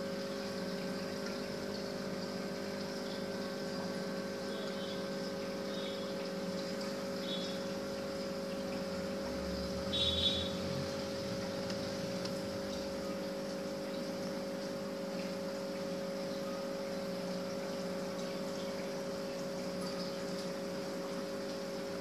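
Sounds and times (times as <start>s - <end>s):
water pump motor hum: 0.0s - 22.0s
water trickling: 0.0s - 22.0s.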